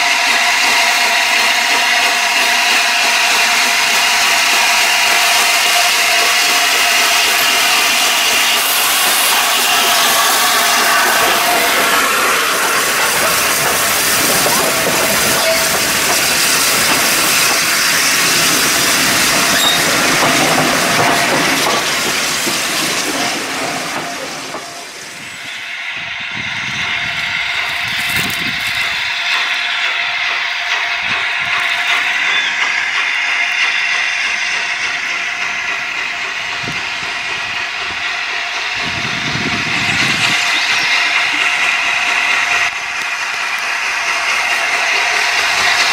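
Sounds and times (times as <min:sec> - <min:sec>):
steam hissing: 0:00.0 - 0:45.9
steam locomotive exhaust: 0:00.0 - 0:45.9.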